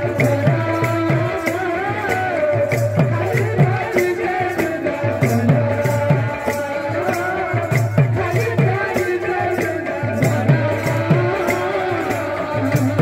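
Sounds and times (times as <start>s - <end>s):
barrel drums beaten fast: 0.0s - 13.0s.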